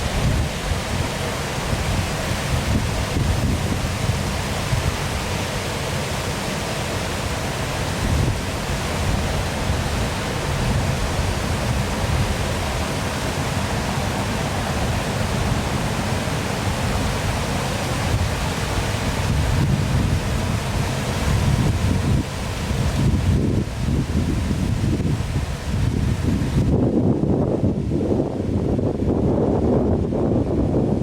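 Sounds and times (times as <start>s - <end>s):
waterfall rushing: 0.0s - 29.1s.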